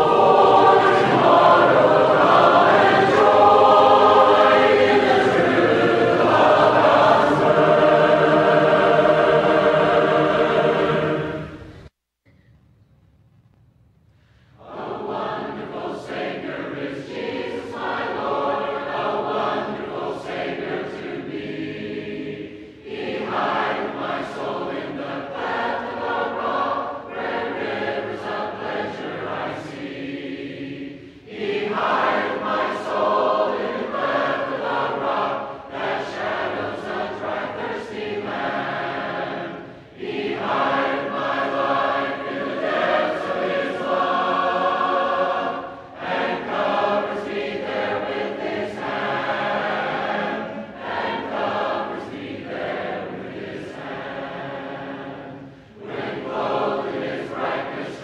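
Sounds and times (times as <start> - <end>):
choir singing a hymn: 0.0 - 11.9, 14.6 - 58.0.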